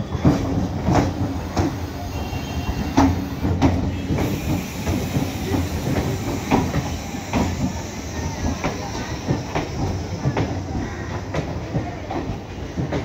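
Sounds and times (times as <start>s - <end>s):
train rumbling past: 0.0s - 13.0s
wheels clacking over rail joints: 0.0s - 13.0s.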